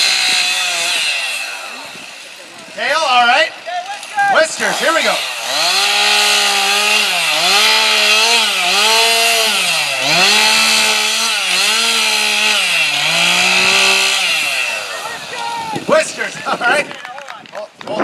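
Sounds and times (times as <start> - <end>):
chainsaw cutting wood: 0.0 - 17.4.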